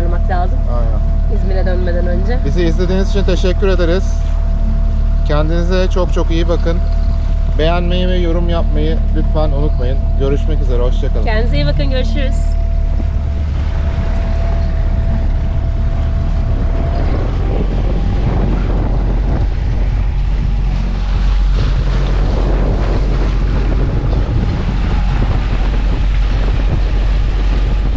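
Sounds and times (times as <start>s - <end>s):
boat engine running: 0.0s - 27.9s
wind buffeting microphone: 0.0s - 27.9s.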